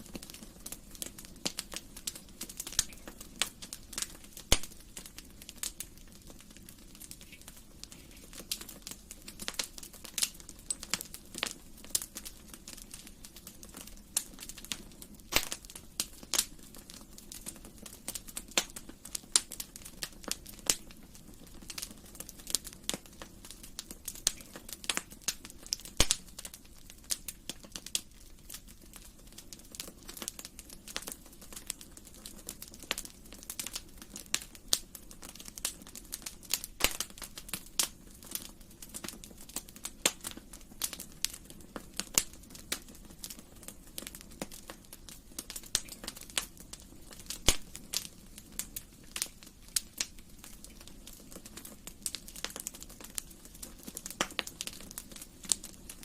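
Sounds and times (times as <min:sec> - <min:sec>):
soft low hiss: 0:00.0 - 0:56.0
wood fire crackling: 0:00.0 - 0:56.0.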